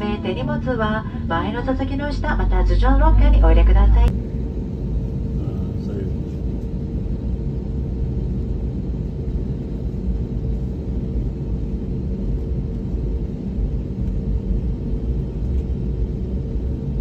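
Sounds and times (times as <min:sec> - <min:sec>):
engine and airflow rumble: 0:00.0 - 0:17.0
faint steady hum: 0:00.0 - 0:17.0.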